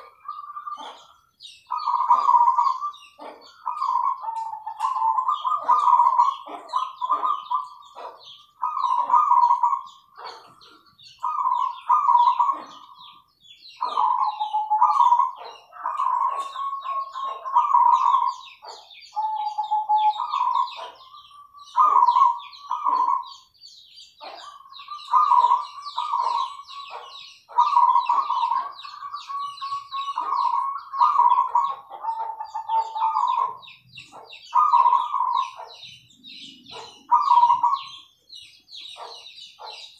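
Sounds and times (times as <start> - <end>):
doves cooing: 0.0 - 23.5, 24.2 - 38.1
high fast bird chirping: 0.0 - 39.9.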